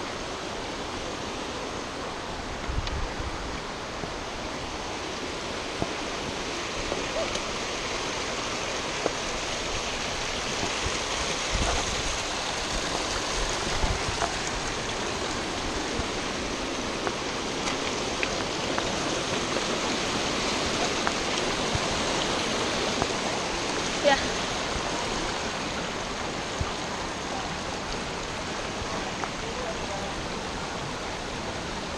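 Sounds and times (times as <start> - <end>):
stream rushing over rocks: 0.0 - 31.9.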